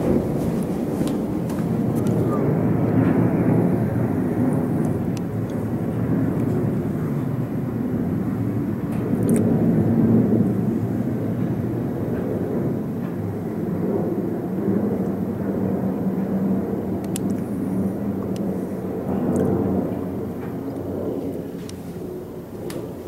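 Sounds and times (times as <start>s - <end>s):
aircraft rumble: 0.0s - 23.0s.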